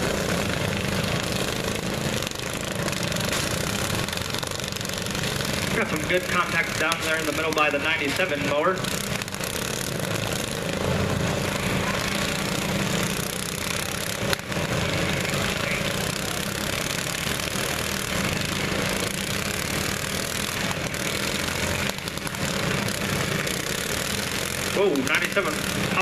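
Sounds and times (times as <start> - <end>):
lawn mower engines running: 0.0 - 26.0.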